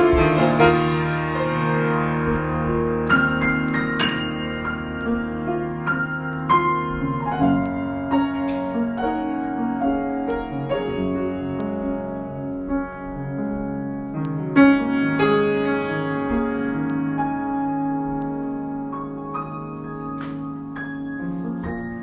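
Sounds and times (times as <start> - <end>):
solo piano: 0.0 - 22.0.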